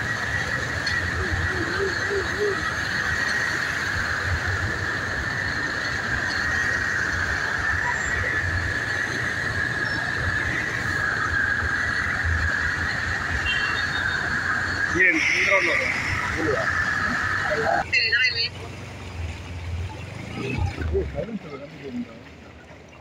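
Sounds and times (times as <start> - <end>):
constant high whine: 0.0 - 23.0
vehicle engines rumbling: 0.0 - 23.0.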